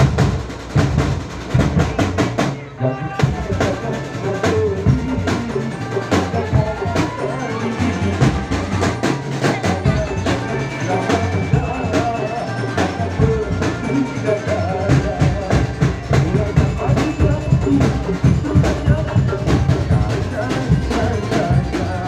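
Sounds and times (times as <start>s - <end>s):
percussion-heavy music: 0.0s - 22.0s.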